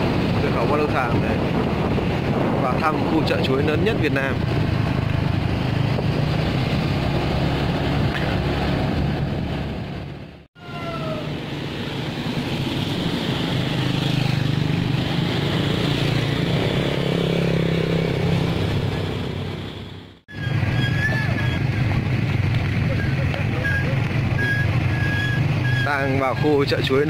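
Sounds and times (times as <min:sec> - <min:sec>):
motorbike engines droning: 0:00.0 - 0:27.0
motorbike passing by: 0:00.0 - 0:27.0.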